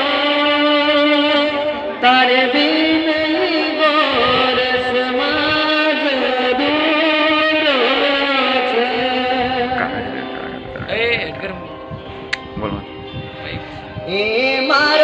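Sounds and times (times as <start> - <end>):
man singing long held notes: 0.0 - 15.0.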